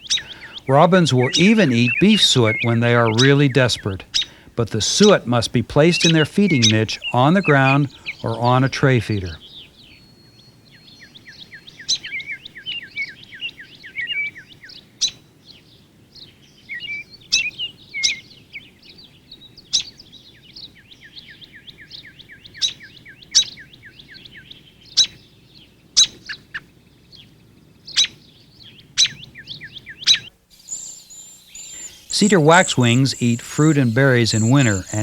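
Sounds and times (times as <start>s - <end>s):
sharp bird chip calls: 0.0s - 15.2s, 16.7s - 18.7s, 19.4s - 25.3s, 27.9s - 35.0s
songbirds calling: 0.0s - 35.0s.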